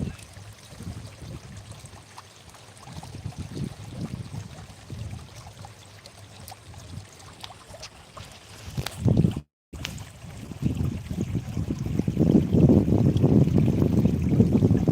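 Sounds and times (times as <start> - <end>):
running water: 0.0 - 14.9.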